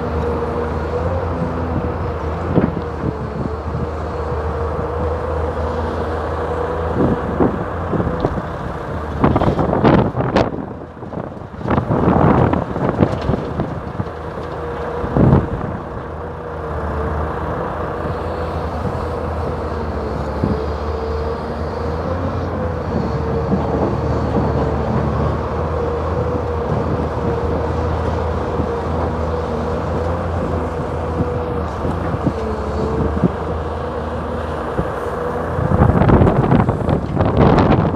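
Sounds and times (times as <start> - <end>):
excavator engine drone with whine: 0.0 - 37.9.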